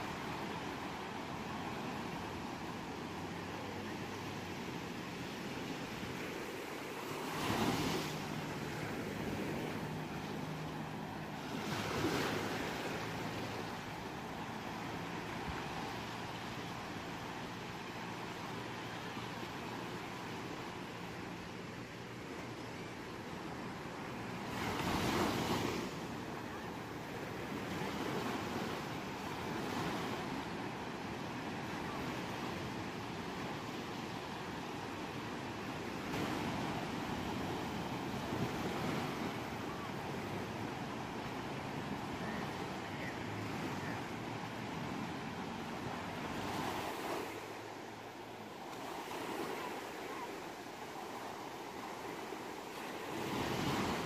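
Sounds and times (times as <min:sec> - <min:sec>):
ocean surf washing on shore: 0:00.0 - 0:54.0
waves breaking: 0:00.0 - 0:54.0.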